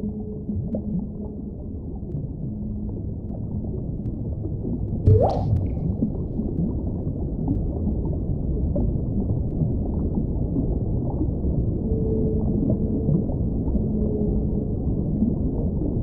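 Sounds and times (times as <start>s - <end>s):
low sea rumble: 0.0s - 16.0s.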